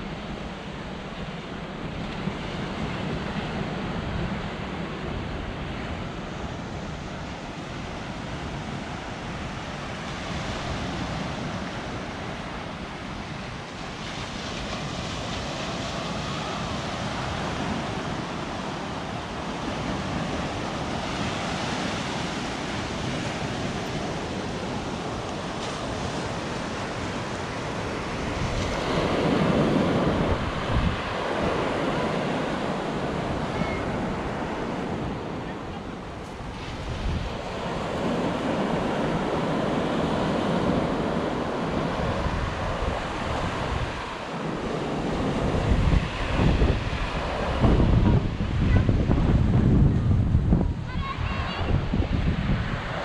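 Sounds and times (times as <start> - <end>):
sea waves breaking on beach: 0.0 - 53.0
wind buffeting microphone: 1.4 - 53.0.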